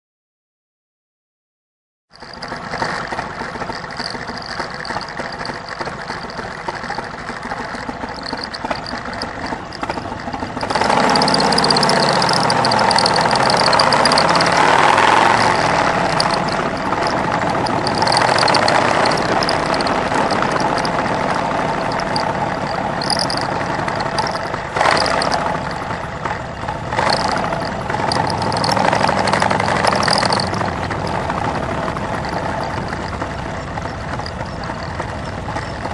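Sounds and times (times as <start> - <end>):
motorcycle engine running: 2.1 - 35.9.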